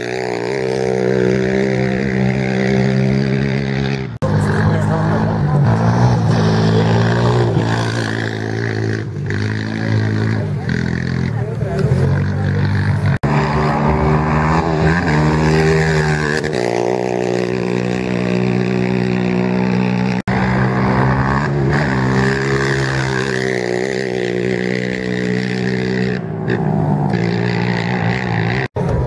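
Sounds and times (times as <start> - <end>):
quad engines revving: 0.0 - 29.0.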